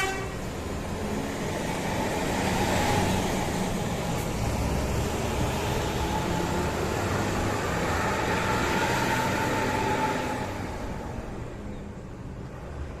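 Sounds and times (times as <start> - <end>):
bus passing: 0.0 - 13.0.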